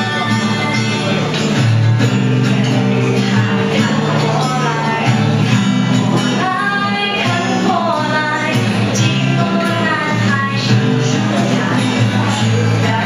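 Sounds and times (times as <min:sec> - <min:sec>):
acoustic guitar strumming: 0:00.0 - 0:13.0
woman singing pop song: 0:00.0 - 0:13.0.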